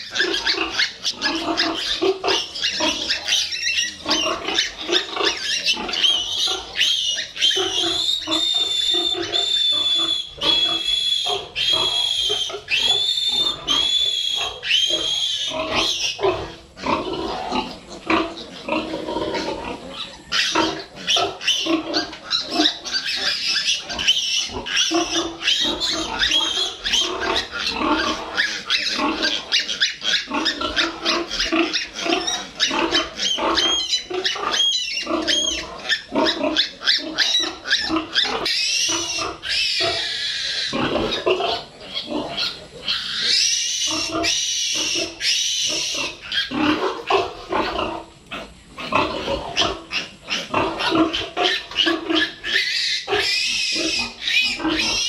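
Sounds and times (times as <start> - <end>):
piglets grunting and squealing: 0.0 - 55.0.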